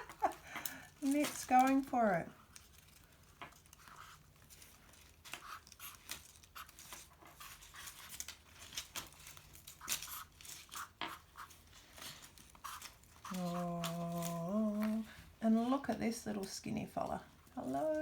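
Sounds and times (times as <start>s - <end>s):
dry leaves crinkling and tearing: 0.0s - 15.1s.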